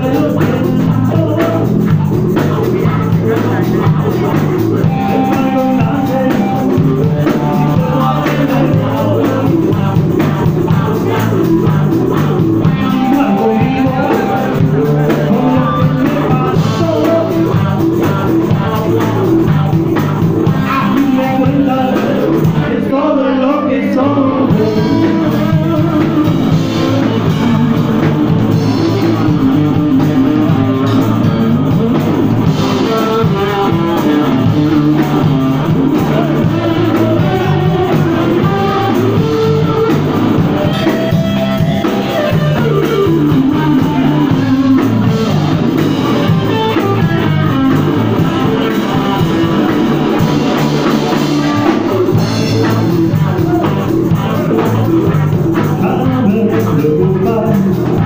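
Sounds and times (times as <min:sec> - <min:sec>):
drum kit: 0:00.0 - 0:22.9, 0:24.0 - 0:58.0
electric guitar: 0:00.0 - 0:58.0.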